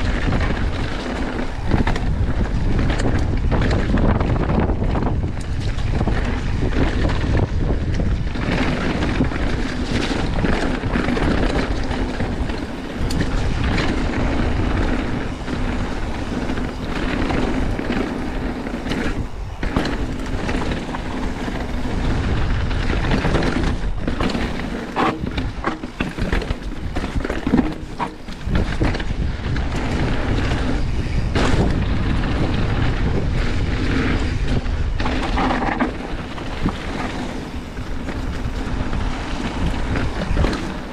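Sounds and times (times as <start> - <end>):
bike knocks and rattles: 0.0 - 40.9
tyres rolling on gravel trail: 0.0 - 40.9
wind buffeting microphone: 0.0 - 40.9.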